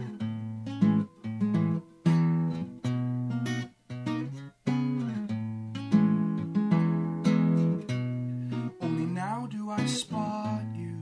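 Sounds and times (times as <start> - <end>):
acoustic guitar plucking: 0.0 - 11.0.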